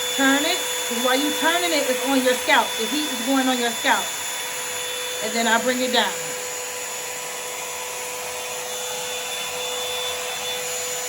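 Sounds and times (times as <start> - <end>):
hot-air brush dryer running: 0.0 - 11.0.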